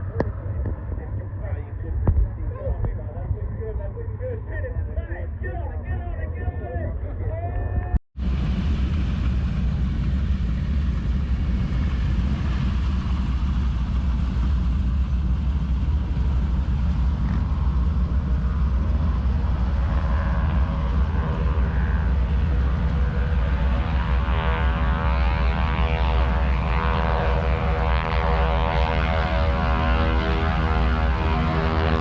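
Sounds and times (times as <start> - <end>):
propeller aircraft engines rumbling: 0.0 - 32.0.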